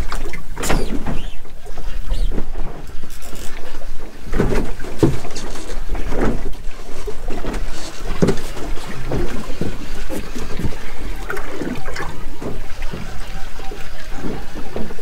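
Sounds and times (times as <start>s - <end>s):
waves slapping boat hull: 0.0s - 15.0s.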